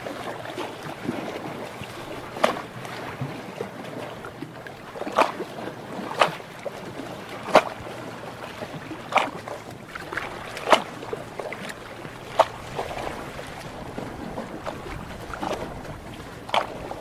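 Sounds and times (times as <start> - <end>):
water lapping: 0.0 - 17.0
water slaps: 0.0 - 17.0.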